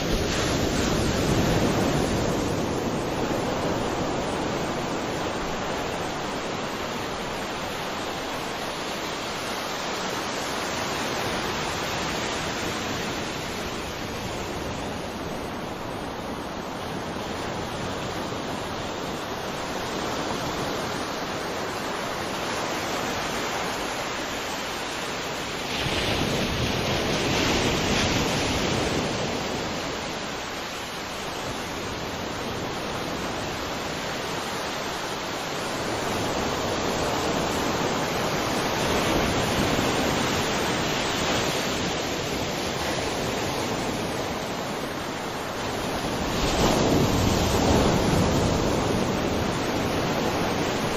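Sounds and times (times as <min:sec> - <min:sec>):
sea waves washing onto shore: 0:00.0 - 0:50.9.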